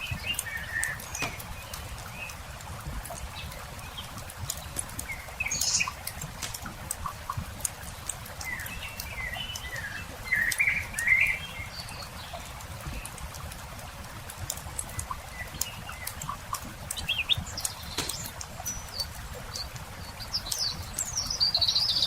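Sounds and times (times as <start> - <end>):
birds singing: 0.0 - 7.4, 8.0 - 13.4, 14.8 - 22.0
campfire crackling and popping: 0.0 - 22.0.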